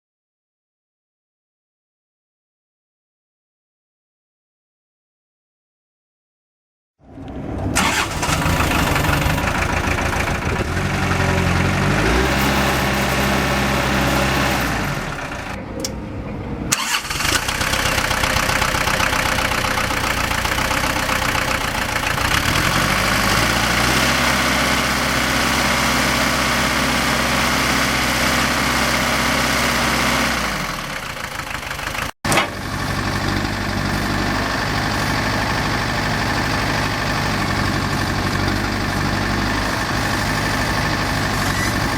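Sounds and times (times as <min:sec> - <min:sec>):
tractor diesel engine revving: 0:07.1 - 0:15.7, 0:16.7 - 0:41.9.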